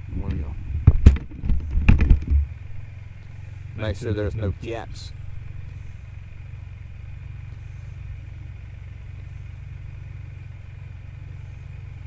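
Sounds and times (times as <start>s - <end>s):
three-cylinder engine idling: 0.0s - 12.0s.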